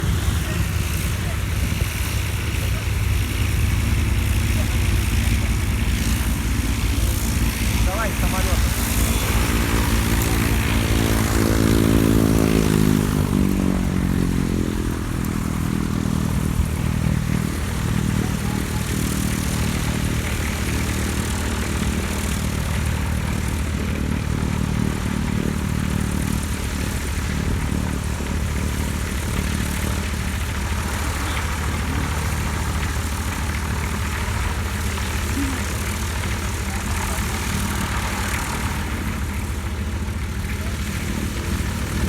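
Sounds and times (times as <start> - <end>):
aircraft engine drone: 0.0 - 42.0.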